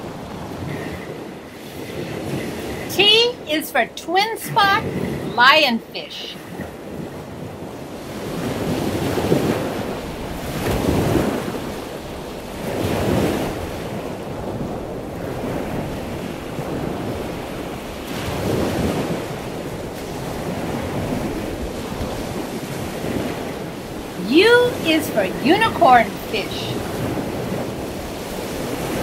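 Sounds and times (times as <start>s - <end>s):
ocean waves washing: 0.0s - 29.0s.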